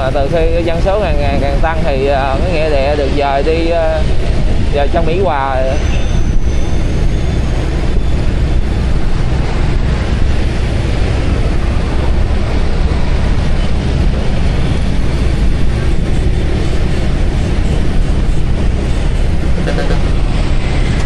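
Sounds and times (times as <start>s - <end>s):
road noise: 0.0s - 21.0s
wind on microphone: 0.0s - 21.0s
scooter engine: 3.8s - 21.0s.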